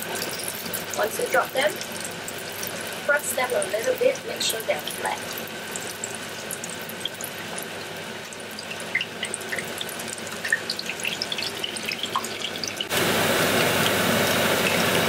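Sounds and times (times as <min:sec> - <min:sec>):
batter deep-frying in oil: 0:00.0 - 0:15.0.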